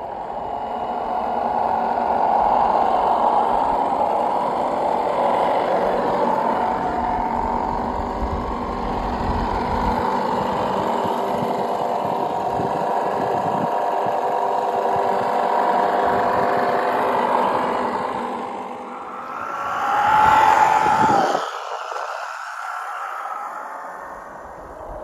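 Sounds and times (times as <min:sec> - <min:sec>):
simulated engine sound: 0:00.0 - 0:25.0.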